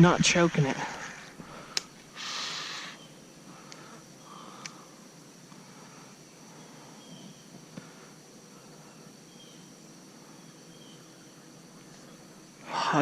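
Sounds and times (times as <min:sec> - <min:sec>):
high-pitched insect drone: 0:00.0 - 0:13.0
faint chirps: 0:00.9 - 0:13.0.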